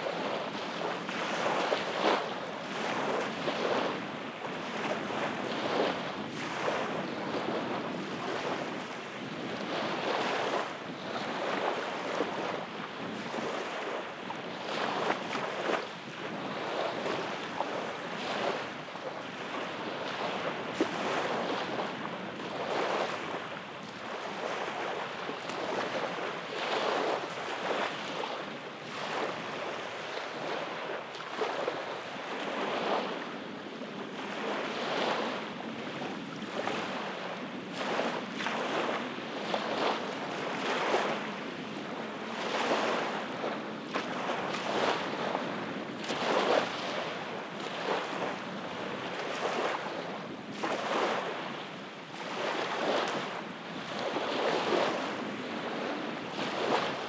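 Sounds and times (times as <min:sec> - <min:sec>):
small waves lapping on beach: 0:00.0 - 0:57.0.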